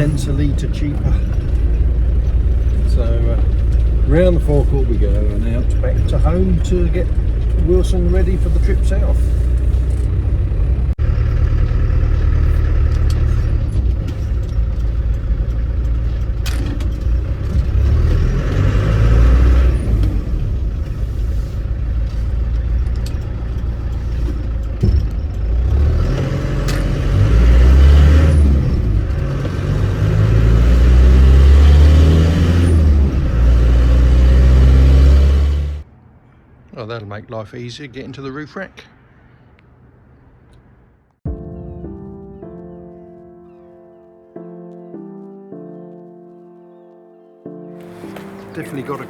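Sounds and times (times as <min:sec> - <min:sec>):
diesel engine and road noise: 0:00.0 - 0:41.4, 0:47.8 - 0:49.0.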